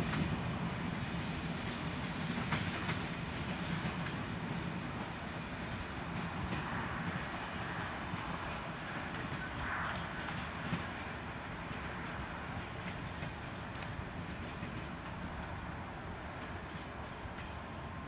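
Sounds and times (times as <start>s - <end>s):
train wheels rumbling on rails: 0.0s - 18.0s
faint clicks over rail joints: 1.0s - 17.8s.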